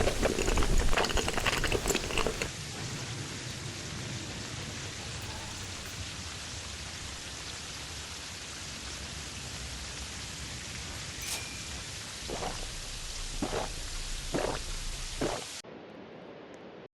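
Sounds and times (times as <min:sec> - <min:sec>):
steady crackling hiss: 0:00.0 - 0:15.6.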